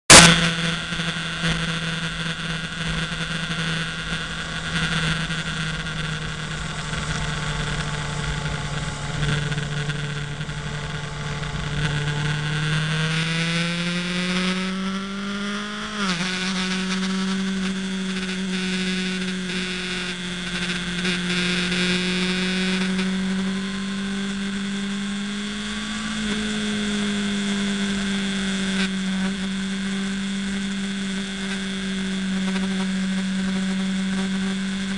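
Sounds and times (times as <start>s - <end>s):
motorcycle engine running: 0.0s - 34.9s
road noise: 0.1s - 34.9s.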